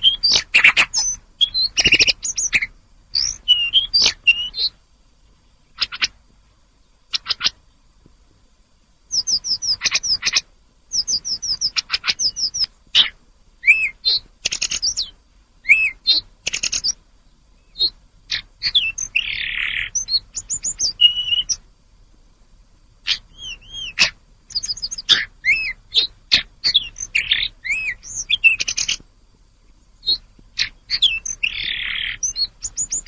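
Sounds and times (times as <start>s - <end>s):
songbird whistling song: 0.0s - 6.2s, 6.8s - 7.9s, 9.1s - 21.7s, 23.0s - 33.0s.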